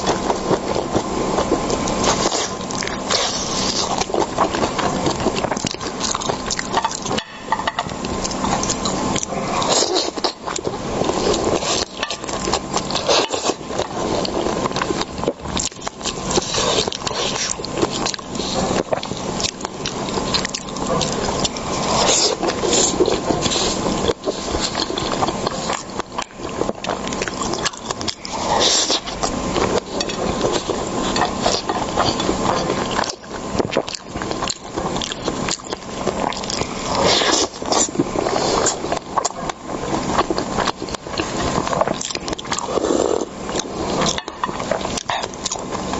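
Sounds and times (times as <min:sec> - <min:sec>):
close chewing and mouth noises: 0:00.0 - 0:45.9.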